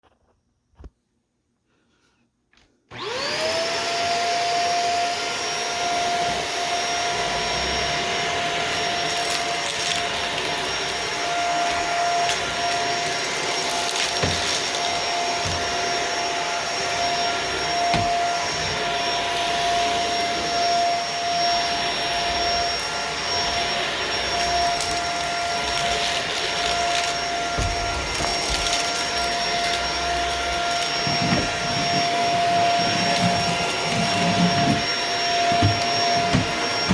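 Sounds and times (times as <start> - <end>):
vacuum cleaner motor whine: 2.9 - 36.9.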